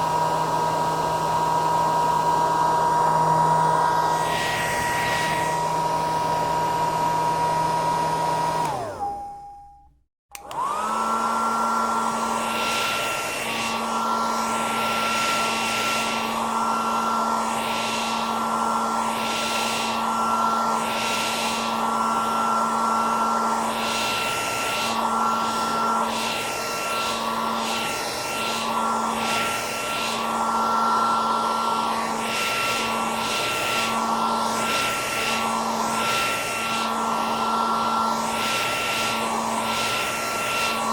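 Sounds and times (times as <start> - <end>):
hair dryer running: 0.0 - 9.6, 10.3 - 40.9
hair dryer switching on: 0.0 - 40.9.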